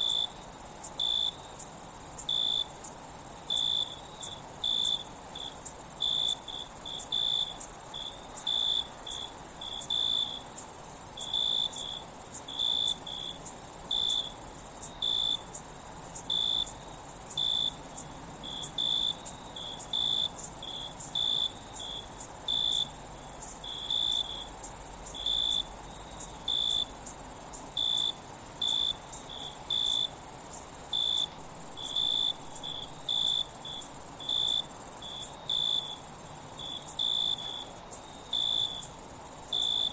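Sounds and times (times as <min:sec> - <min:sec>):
crickets chirping: 0:00.0 - 0:39.9
high-pitched insect trill: 0:00.0 - 0:39.9.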